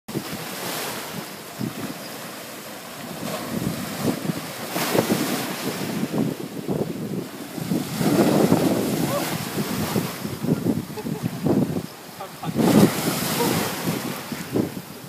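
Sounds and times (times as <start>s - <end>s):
sea surf washing up beach: 0.1s - 15.0s
wind buffeting microphone: 0.1s - 15.0s.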